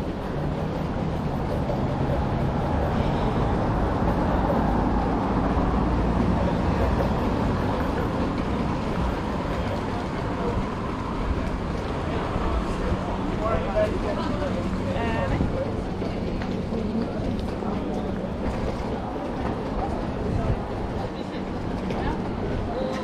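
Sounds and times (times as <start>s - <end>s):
city traffic rumble and hiss: 0.0s - 23.0s.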